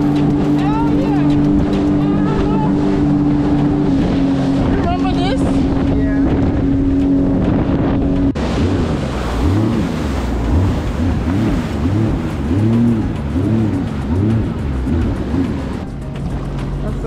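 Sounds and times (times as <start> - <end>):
jet ski engine: 0.0 - 17.0.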